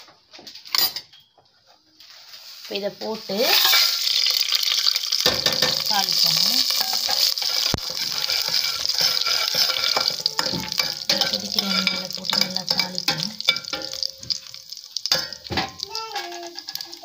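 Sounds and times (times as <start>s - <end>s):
spices sizzling in hot oil: 2.0s - 17.0s.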